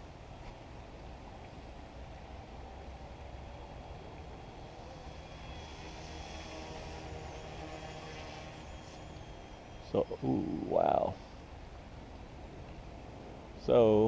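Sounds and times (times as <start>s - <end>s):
low steady rumble: 0.0s - 14.0s
remote-control helicopter whine: 1.6s - 13.0s.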